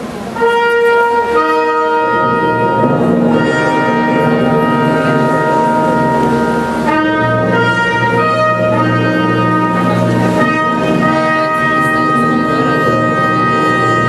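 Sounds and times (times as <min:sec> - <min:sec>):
orchestral brass and wind chords: 0:00.1 - 0:14.0.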